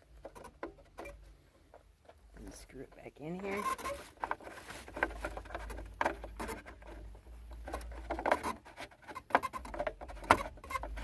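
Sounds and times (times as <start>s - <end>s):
small clicks and scrapes of hands: 0.0s - 11.0s.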